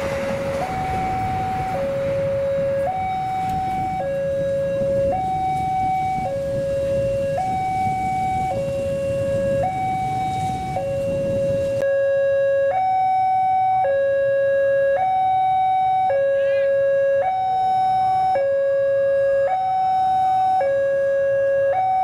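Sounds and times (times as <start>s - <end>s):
level crossing alarm two-tone: 0.5s - 22.0s.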